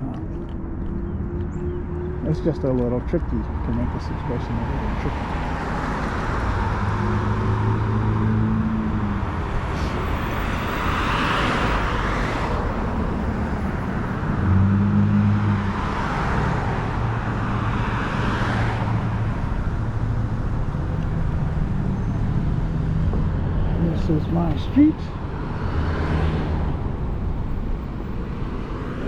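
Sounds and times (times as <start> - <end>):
road traffic passing: 0.0 - 29.0.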